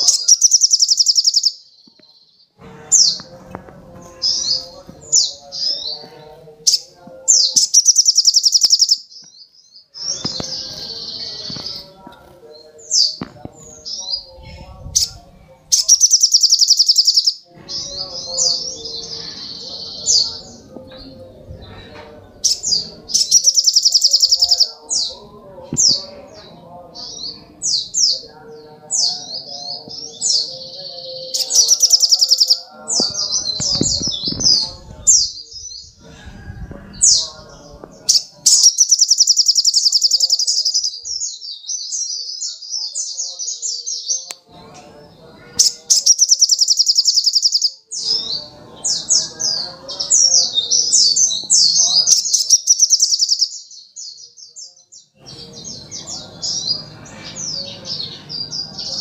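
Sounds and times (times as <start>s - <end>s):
bird chirping phrases: 0.0s - 59.0s.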